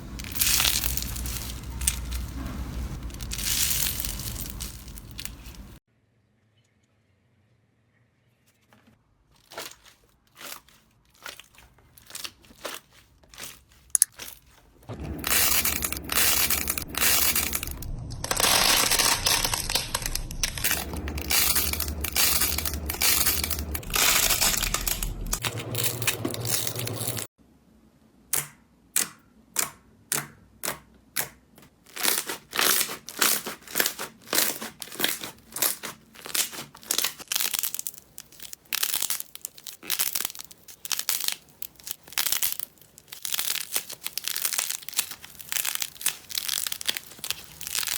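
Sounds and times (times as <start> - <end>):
slime crackling and crunching: 0.0 - 5.8, 9.3 - 27.3, 31.8 - 47.9.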